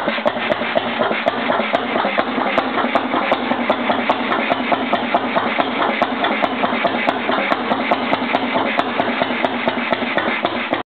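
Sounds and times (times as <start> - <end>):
stationary engine running: 0.0 - 10.8.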